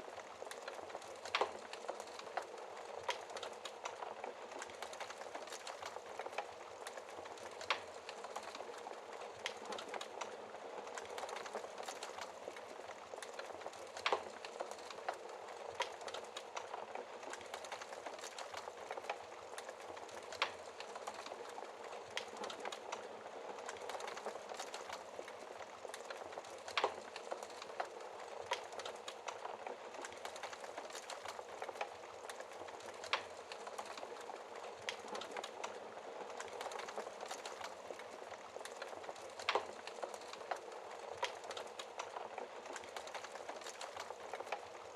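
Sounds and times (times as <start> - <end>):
fire hissing and crackling: 0.0 - 44.9.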